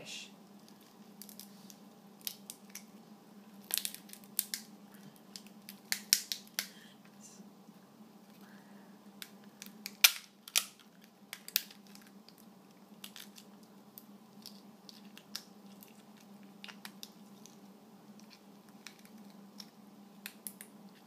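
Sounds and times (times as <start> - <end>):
crayfish shell cracking: 0.5 - 2.9, 3.5 - 6.7, 9.2 - 17.6, 18.2 - 21.0.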